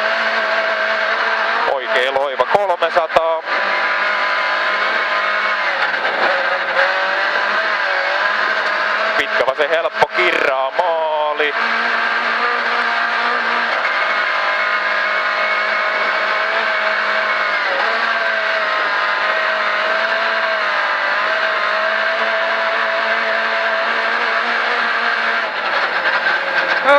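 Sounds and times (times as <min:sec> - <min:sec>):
car engine at high revs: 0:00.0 - 0:26.9
tyre and road noise on snow: 0:00.0 - 0:26.9.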